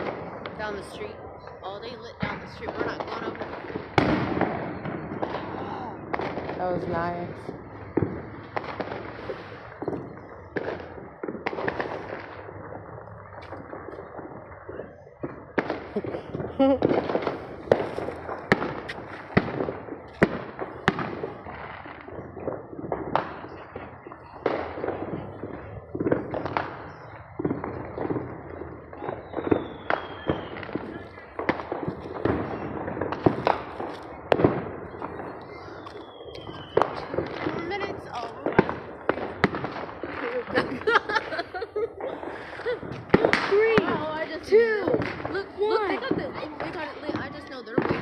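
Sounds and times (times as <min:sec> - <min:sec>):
distant fireworks: 0:00.0 - 0:48.0
fireworks bangs and pops: 0:00.0 - 0:48.0.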